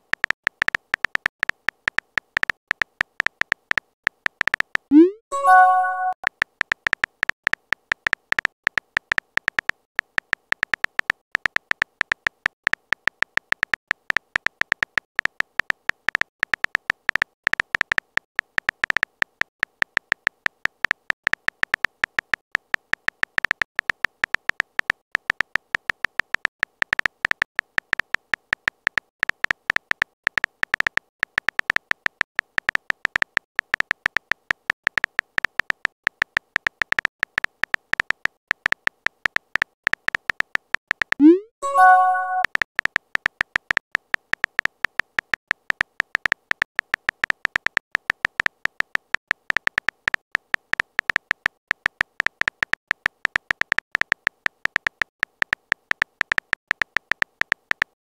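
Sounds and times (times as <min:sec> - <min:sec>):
keyboard typing clicks: 0:00.0 - 0:58.0.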